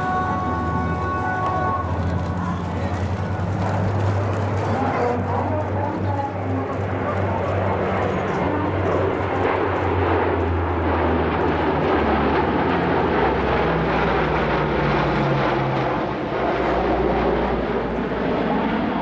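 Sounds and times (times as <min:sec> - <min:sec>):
turboprop aircraft droning overhead: 0:00.0 - 0:19.0.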